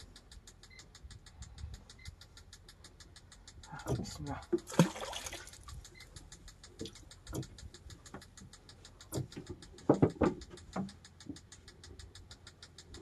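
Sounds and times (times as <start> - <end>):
faint rapid ticking: 0.0 - 4.8, 5.4 - 13.0.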